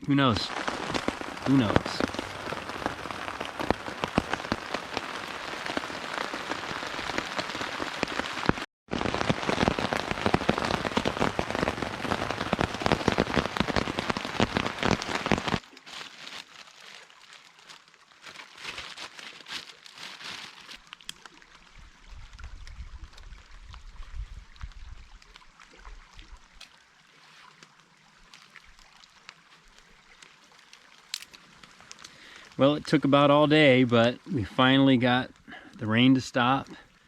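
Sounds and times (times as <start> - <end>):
scattered water drips: 0.0 - 8.7, 9.3 - 37.0
rain pattering: 0.0 - 37.0.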